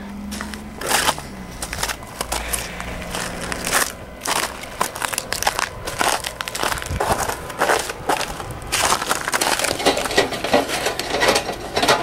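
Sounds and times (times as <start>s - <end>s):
footsteps crunching on snow: 0.2s - 10.9s.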